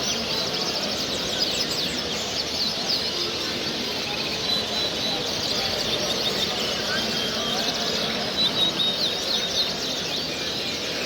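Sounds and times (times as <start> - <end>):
many small birds chirping: 0.0 - 11.0.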